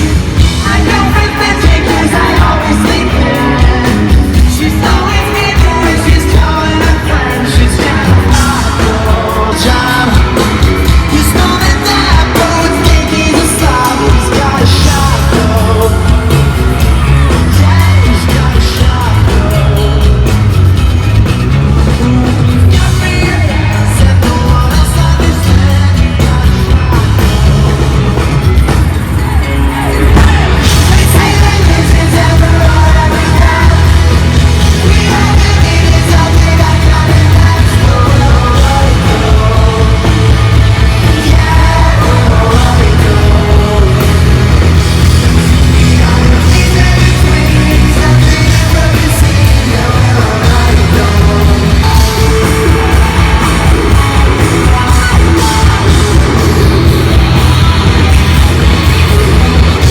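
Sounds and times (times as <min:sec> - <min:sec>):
person singing: 0:00.0 - 0:20.6, 0:21.7 - 0:59.9
live rock band playing: 0:00.0 - 0:59.9.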